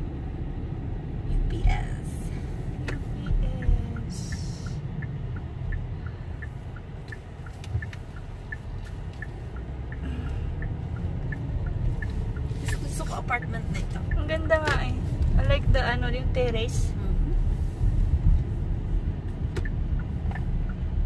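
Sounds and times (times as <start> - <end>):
car cabin road rumble: 0.0 - 21.0
turn signal clicking: 1.4 - 21.0.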